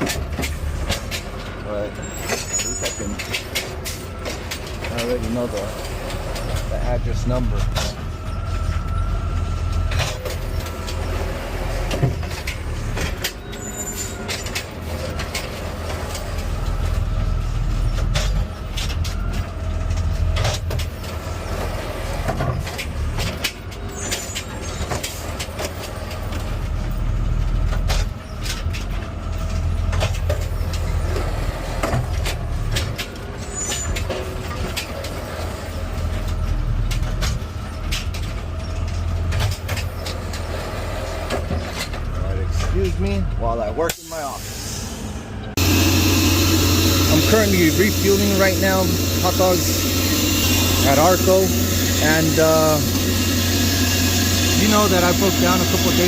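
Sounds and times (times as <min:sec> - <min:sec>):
diesel engine low rumble: 0:00.0 - 0:56.0.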